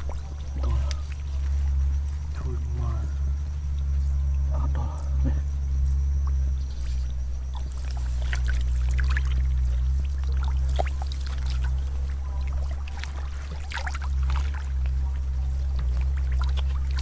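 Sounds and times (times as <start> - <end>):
loud steady low hum: 0.0 - 17.0
water splashing and trickling: 0.0 - 17.0.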